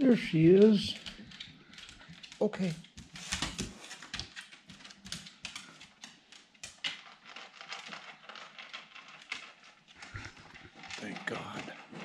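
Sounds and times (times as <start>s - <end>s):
dog claws clicking on wooden floor: 0.4s - 12.0s.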